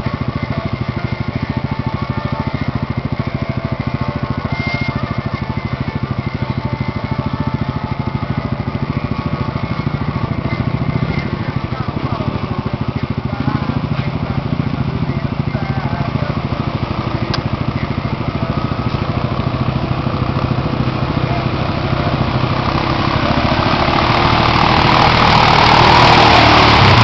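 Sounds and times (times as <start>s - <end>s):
quad engine running: 0.0s - 27.0s.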